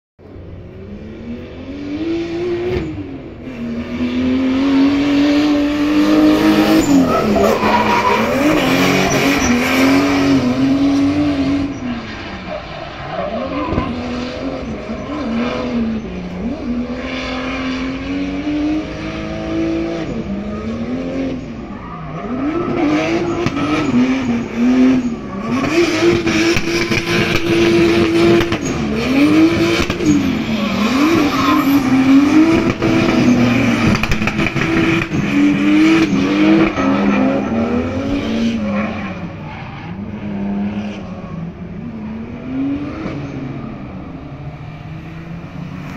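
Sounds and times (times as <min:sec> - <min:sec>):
car engine at high revs: 0:00.2 - 0:45.9
tyres skidding: 0:00.2 - 0:45.9.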